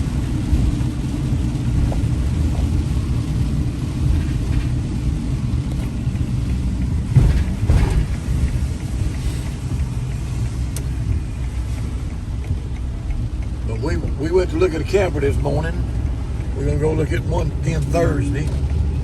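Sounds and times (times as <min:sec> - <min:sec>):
road and engine rumble inside vehicle: 0:00.0 - 0:19.0.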